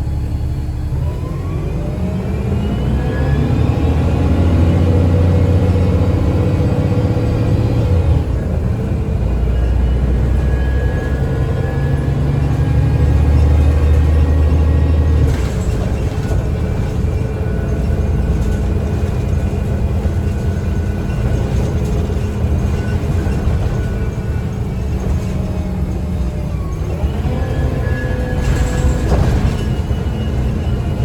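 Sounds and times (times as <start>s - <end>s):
bus drivetrain running: 0.0s - 31.0s.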